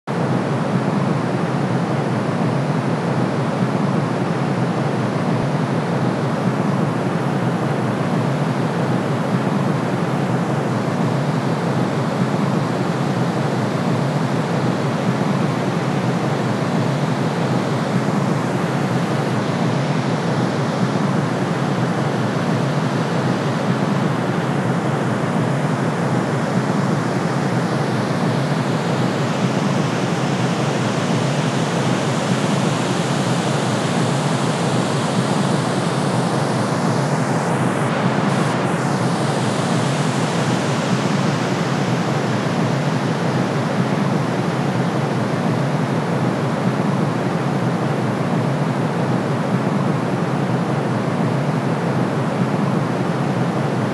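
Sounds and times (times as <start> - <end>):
steady white noise hiss: 0.1 - 53.9.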